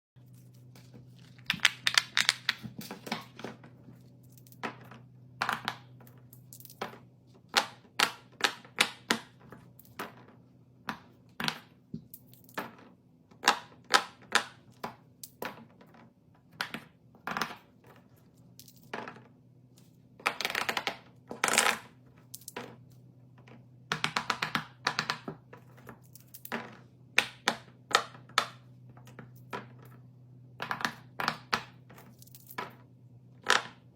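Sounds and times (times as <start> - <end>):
clicks and taps of small objects: 1.3 - 19.4, 20.2 - 30.0, 30.6 - 33.9.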